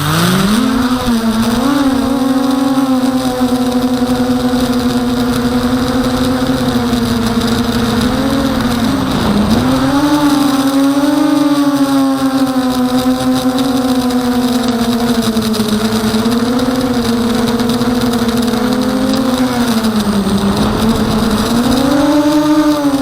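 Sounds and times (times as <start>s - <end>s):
quadcopter motors buzzing whine: 0.0s - 23.0s.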